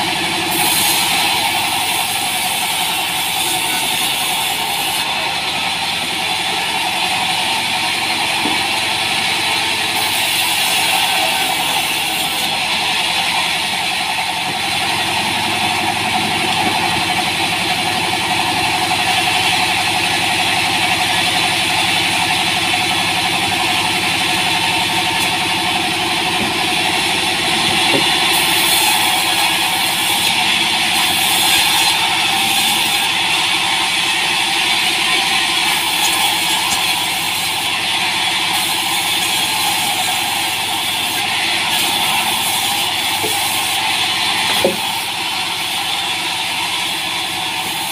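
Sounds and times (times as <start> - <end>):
band saw blade cutting logs: 0.0 - 47.9
machinery drone: 0.0 - 47.9.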